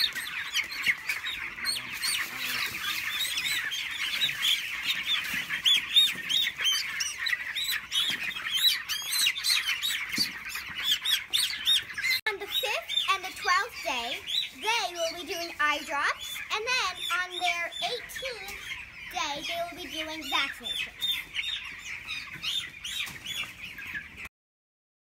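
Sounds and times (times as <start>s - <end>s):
chicks peeping: 0.0s - 24.3s.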